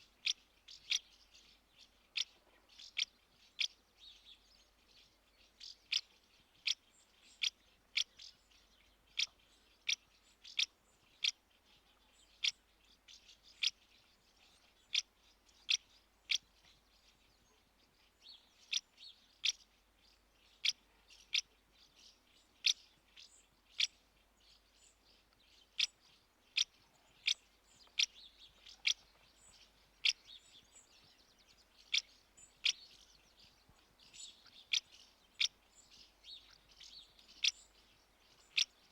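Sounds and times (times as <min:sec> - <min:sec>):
faint bird twittering: 0:00.0 - 0:38.9
house martins chirping: 0:05.0 - 0:38.9.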